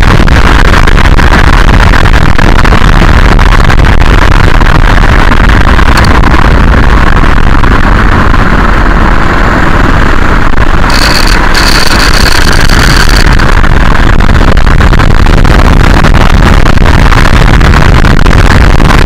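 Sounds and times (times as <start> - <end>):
road and wind rumble: 0.0 - 19.0.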